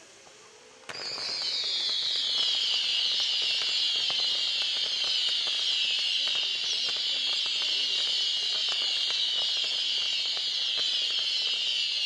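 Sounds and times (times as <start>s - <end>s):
firework hiss sinking in pitch: 0.0s - 12.0s
firework pops and crackles: 0.0s - 12.0s
firework bang: 0.8s - 12.0s.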